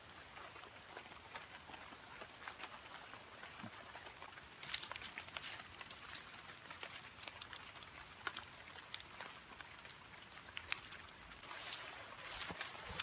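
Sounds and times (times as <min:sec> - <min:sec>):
raindrops ticking nearby: 0:00.0 - 0:13.0.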